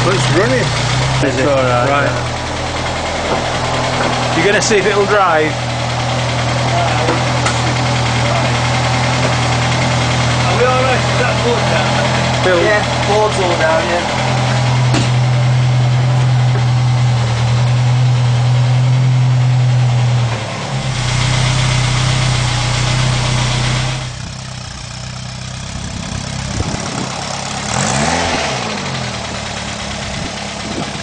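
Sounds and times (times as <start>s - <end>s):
small car engine running: 0.0s - 31.0s.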